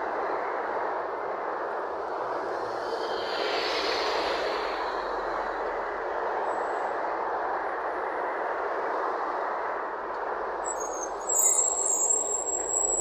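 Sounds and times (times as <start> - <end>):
bus pulling in: 1.7 - 13.0.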